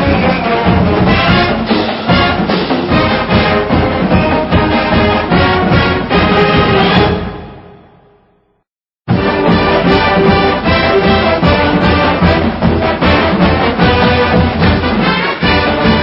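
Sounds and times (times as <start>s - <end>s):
music with brass and beat: 0.0s - 7.7s, 9.1s - 16.0s.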